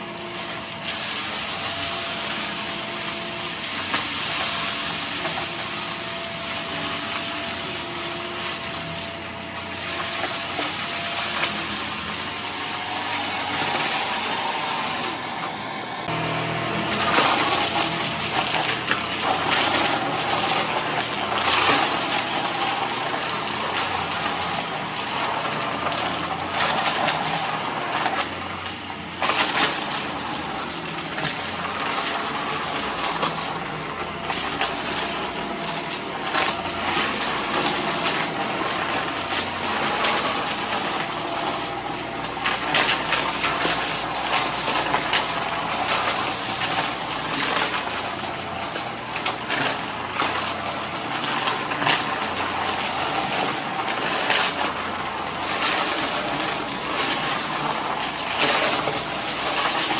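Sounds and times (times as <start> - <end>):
debris crackling in vacuum: 0.0 - 59.9
vacuum cleaner running: 0.0 - 59.9.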